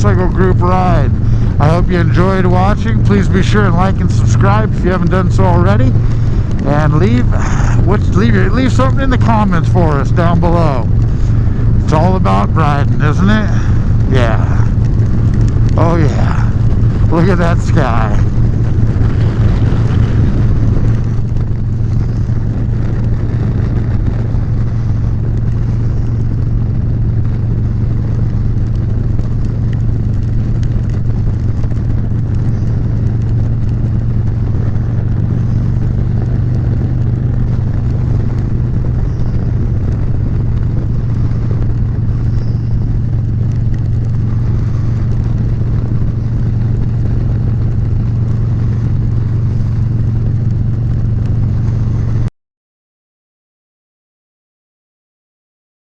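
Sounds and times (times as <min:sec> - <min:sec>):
motorcycle engine cruising: 0:00.0 - 0:52.3
wind and road noise: 0:00.0 - 0:52.3.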